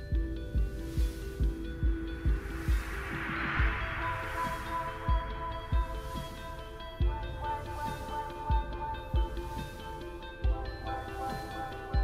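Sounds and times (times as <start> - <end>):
hiss: 0.0 - 12.0
music with low beat and synth: 0.0 - 12.0.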